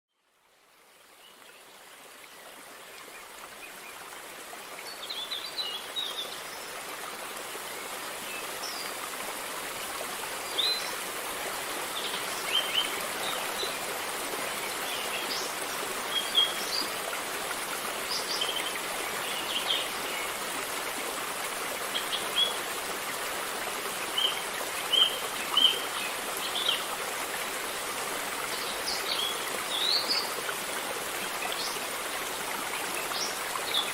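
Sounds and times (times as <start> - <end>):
river water flowing: 0.2 - 33.9.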